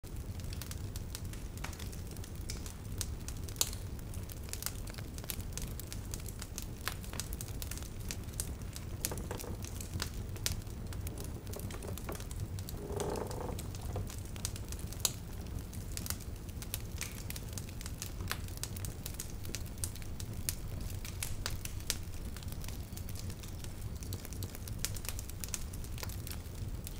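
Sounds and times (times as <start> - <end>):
wood fire crackling: 0.1 - 26.9.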